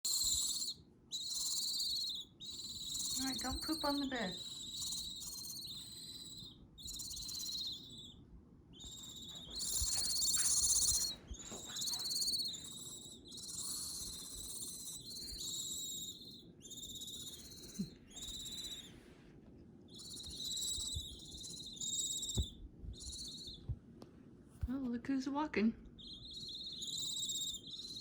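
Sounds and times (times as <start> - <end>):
owl chicks hissing calls: 0.0 - 19.2, 19.9 - 23.6, 26.0 - 28.0.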